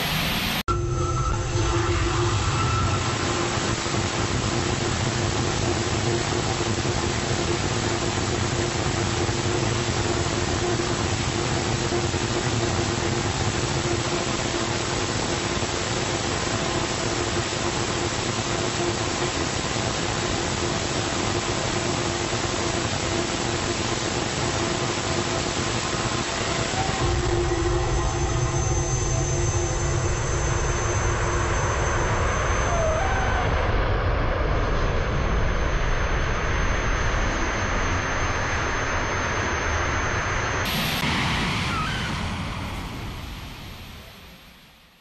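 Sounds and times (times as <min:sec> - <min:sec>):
rocket engine roaring: 0:00.0 - 0:22.2, 0:22.8 - 0:44.7.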